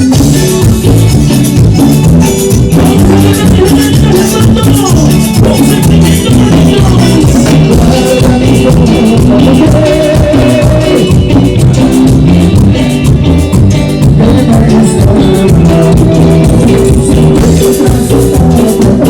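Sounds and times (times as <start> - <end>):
bass line: 0.0 - 19.0
live band playing latin dance music: 0.0 - 19.0.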